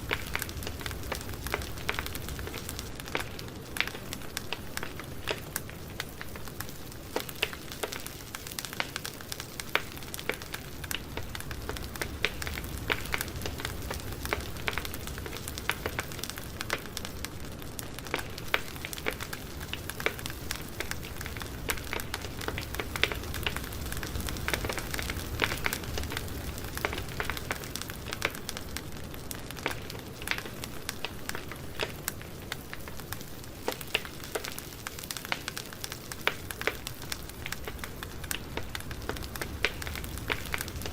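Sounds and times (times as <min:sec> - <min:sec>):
campfire burning: 0:00.0 - 0:40.9
crackles and pops of burning wood: 0:00.0 - 0:40.9.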